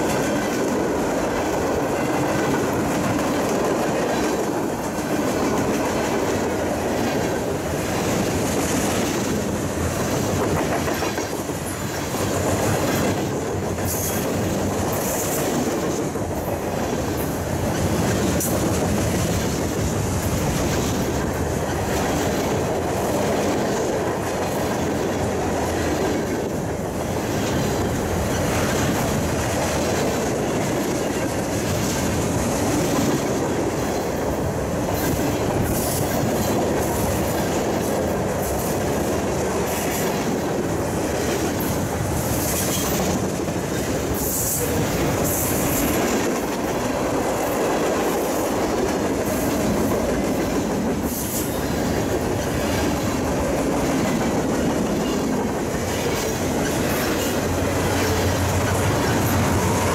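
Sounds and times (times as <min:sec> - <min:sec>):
clickety-clack over rail joints: 0:00.0 - 0:59.9
steel wheels rumbling: 0:00.0 - 0:59.9.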